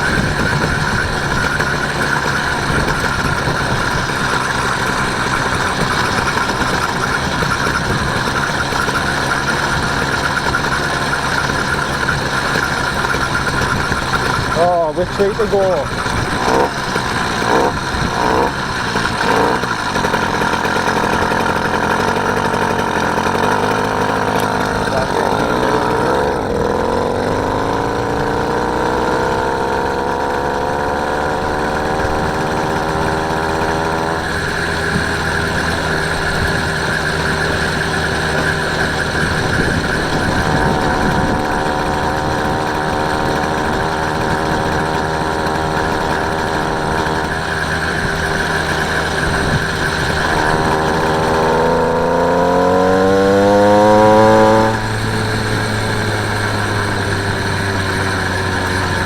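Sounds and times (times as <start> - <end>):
motorised bicycle engine running: 0.0 - 59.0.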